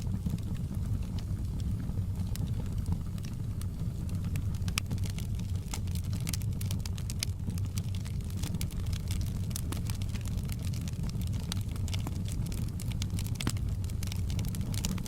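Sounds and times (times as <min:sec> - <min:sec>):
fire crackles and pops: 0:00.0 - 0:15.0
wood fire rumble: 0:00.0 - 0:15.0.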